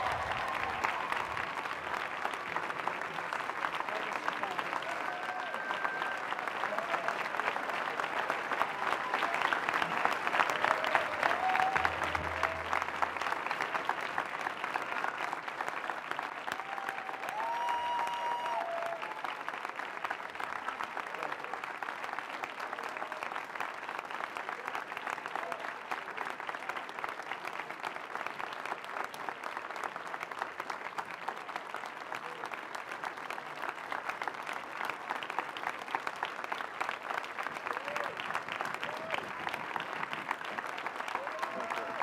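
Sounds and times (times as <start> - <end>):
large crowd applauding: 0.0 - 42.0.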